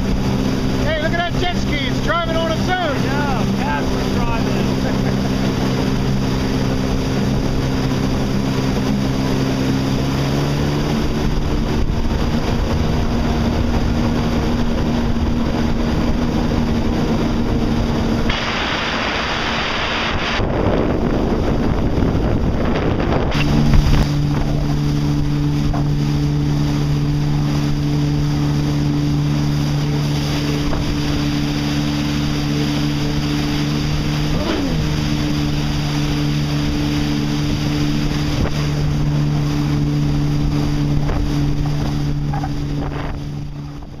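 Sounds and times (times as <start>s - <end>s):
rushing water: 0.0s - 44.0s
watercraft engine running: 0.0s - 44.0s
wind on microphone: 2.4s - 44.0s.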